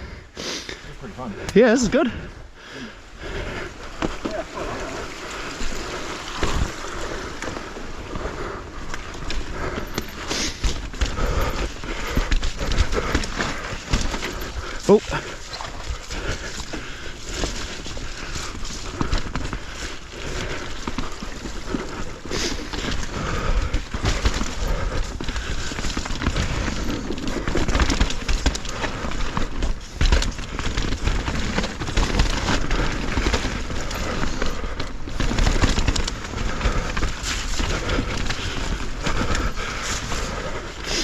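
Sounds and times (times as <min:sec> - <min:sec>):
bike tyres rolling on dirt: 0:00.0 - 0:41.0
bike rattling over bumps: 0:01.2 - 0:41.0.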